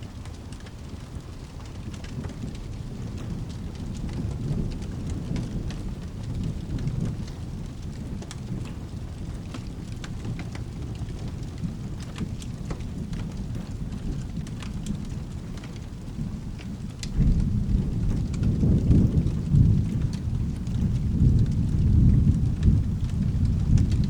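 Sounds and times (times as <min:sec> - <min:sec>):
steady rain: 0:00.0 - 0:24.0
sharp drip-like ticks: 0:00.1 - 0:24.0
thunder rumbling: 0:02.1 - 0:24.0.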